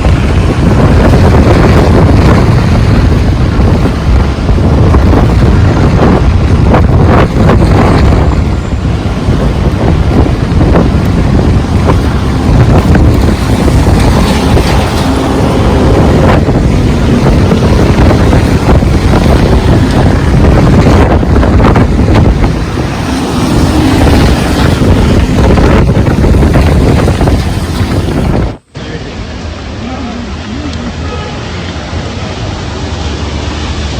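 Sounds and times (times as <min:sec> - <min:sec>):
wind buffeting microphone: 0:00.0 - 0:28.8
heavy rain: 0:00.0 - 0:33.9.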